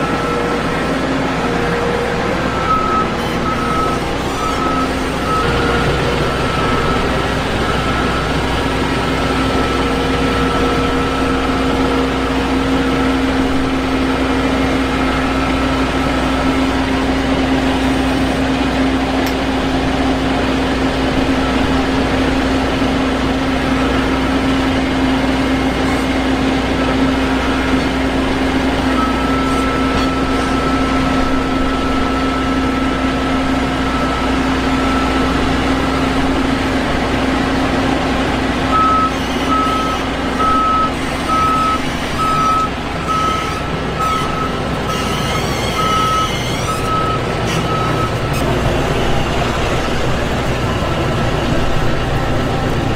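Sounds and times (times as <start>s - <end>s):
combine harvester droning: 0.0s - 52.9s.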